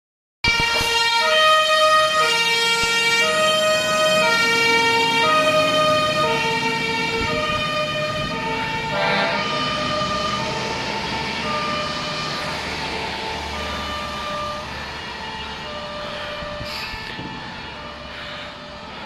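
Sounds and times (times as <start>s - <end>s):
fire engine two-tone siren: 0.4s - 19.0s.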